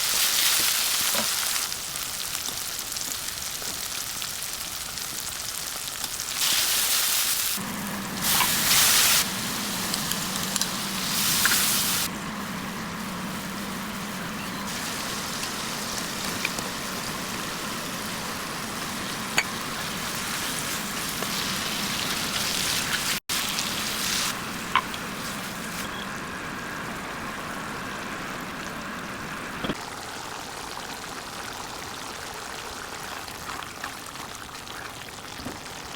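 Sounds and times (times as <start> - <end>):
vegetables sizzling in oil: 0.0 - 34.4.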